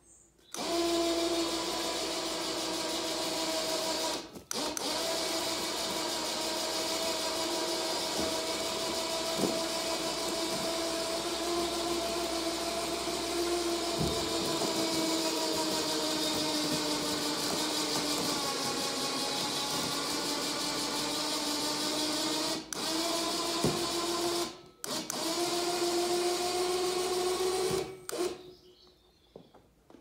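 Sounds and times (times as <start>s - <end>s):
lifting motor whining: 0.5s - 28.5s.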